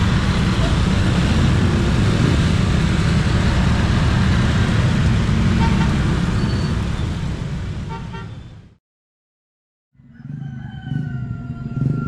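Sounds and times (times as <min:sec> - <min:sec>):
rumble of passing vehicles: 0:00.0 - 0:08.8, 0:10.0 - 0:12.0.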